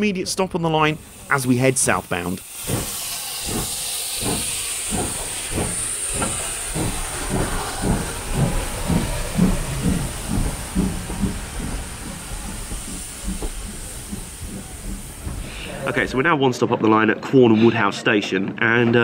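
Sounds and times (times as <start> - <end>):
hiss of escaping steam: 0.0 - 16.2
steam locomotive exhaust chuffs: 0.0 - 16.3.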